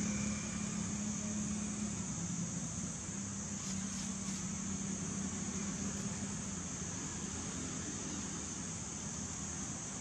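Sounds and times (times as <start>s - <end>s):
constant high hiss: 0.0s - 10.0s.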